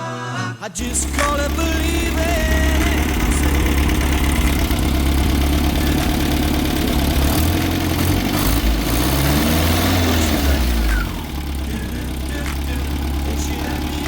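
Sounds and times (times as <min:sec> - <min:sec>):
car engine idling: 0:00.8 - 0:14.0.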